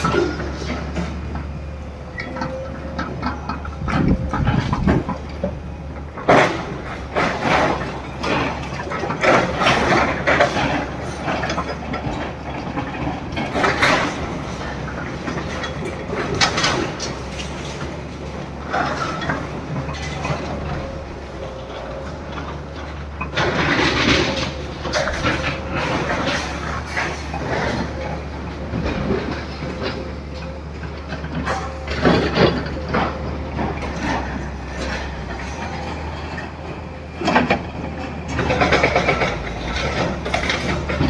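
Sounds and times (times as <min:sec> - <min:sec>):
debris crashing and scraping: 0:00.0 - 0:41.0
machinery engine drone: 0:00.0 - 0:41.0.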